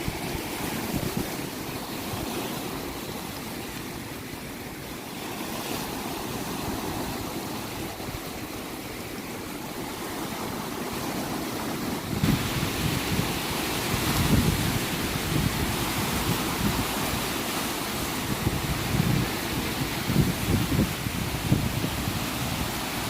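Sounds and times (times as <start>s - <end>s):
waves rushing: 0.0s - 23.0s.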